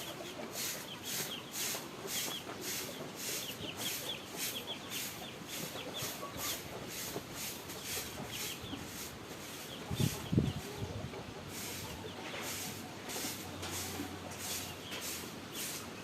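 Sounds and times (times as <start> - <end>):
chickens peeping: 0.0 - 16.0.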